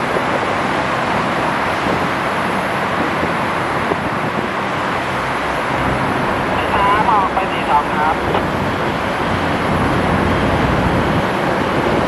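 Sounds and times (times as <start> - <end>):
diesel train running: 0.1 - 12.0.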